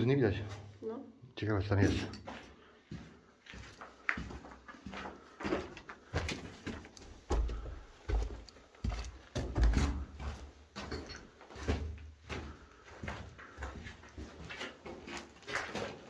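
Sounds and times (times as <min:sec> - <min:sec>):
footsteps on rubble and grit: 0:02.4 - 0:16.0.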